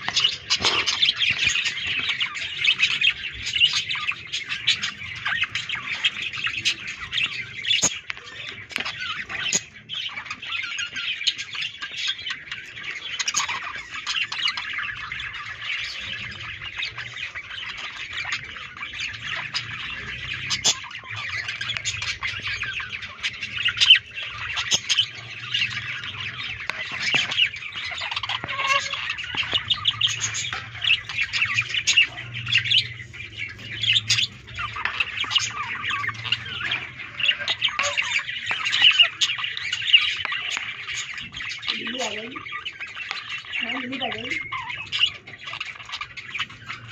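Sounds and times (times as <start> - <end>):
budgerigars chattering: 0.0 - 46.9.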